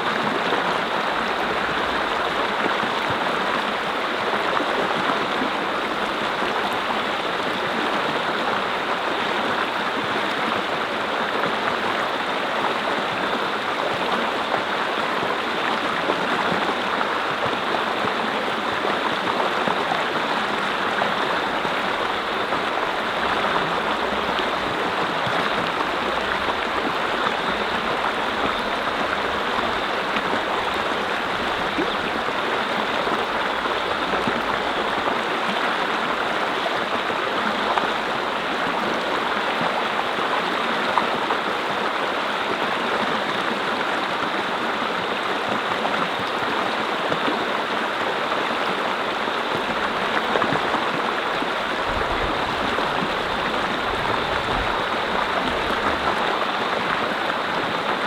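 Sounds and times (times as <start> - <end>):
brook water splashing over rocks: 0.0 - 58.0.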